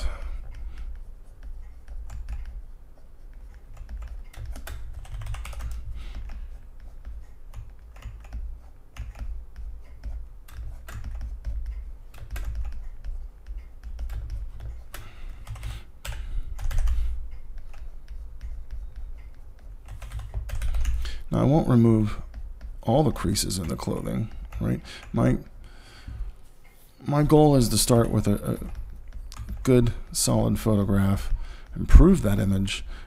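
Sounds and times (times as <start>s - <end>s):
computer keyboard typing: 0.0s - 25.4s, 27.5s - 32.4s
low steady hum: 0.0s - 33.0s.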